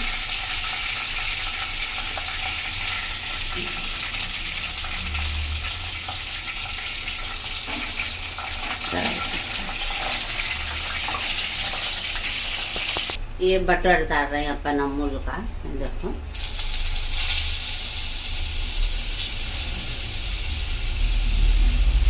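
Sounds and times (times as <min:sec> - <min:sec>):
chicken sizzling in hot oil: 0:00.0 - 0:13.2, 0:16.3 - 0:22.0.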